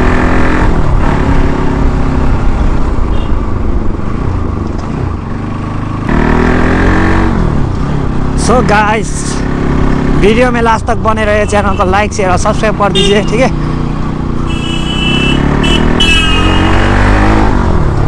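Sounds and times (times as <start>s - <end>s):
motorcycle engine revving: 0.0s - 10.6s, 12.4s - 18.0s.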